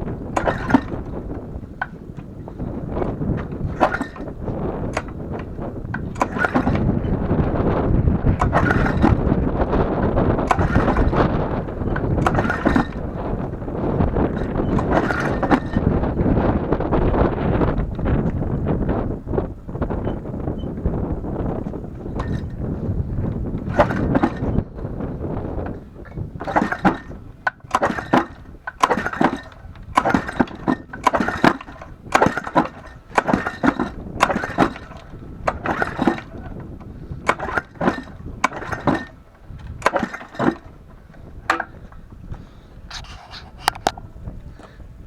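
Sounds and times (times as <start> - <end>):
starter cord yanked: 0.0 - 16.5, 17.6 - 44.8
lawnmower engine turning over: 0.0 - 44.2.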